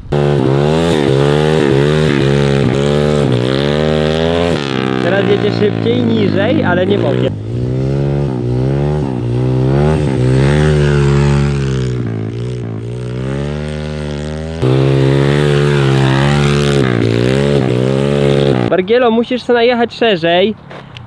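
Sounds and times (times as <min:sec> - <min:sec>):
motorbike engine revving: 0:00.0 - 0:18.8.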